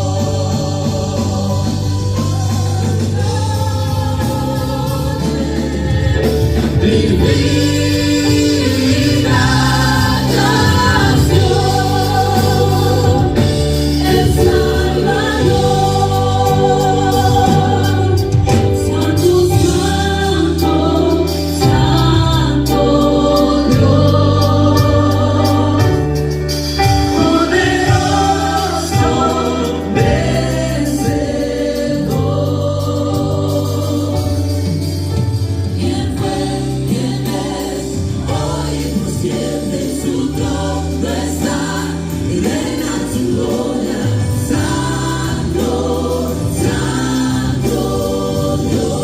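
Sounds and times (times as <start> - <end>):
choir singing gospel music: 0.0 - 49.0
sustained bass notes: 0.0 - 49.0.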